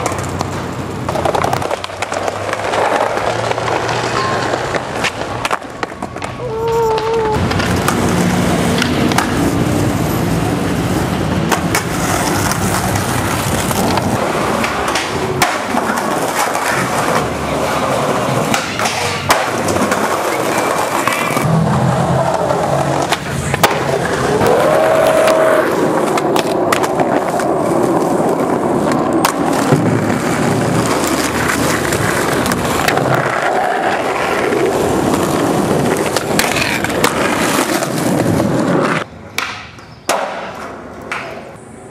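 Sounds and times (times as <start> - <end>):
skateboard clacking on ground: 0.0 - 41.8
skateboard wheels rolling on pavement: 0.0 - 41.9.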